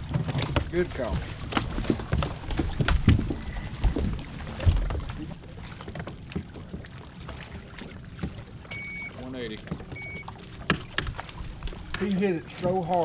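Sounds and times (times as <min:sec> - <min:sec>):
knocks and thumps on boat: 0:00.0 - 0:13.0
water noise: 0:00.0 - 0:13.0.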